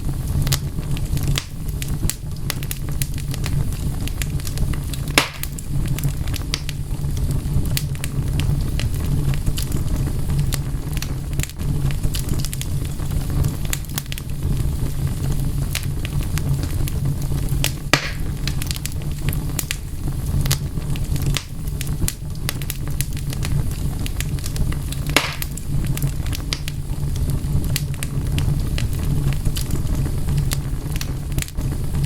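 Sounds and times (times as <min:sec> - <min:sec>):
loud fire pops: 0:00.0 - 0:32.0
wood fire crackling: 0:00.0 - 0:32.0.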